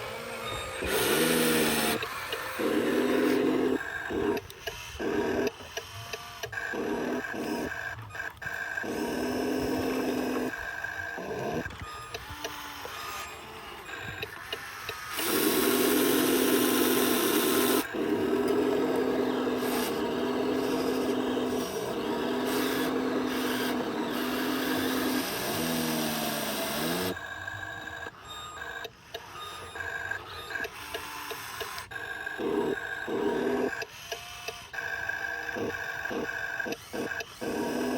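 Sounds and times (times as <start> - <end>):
toy electric motors whirring: 0.0 - 37.9.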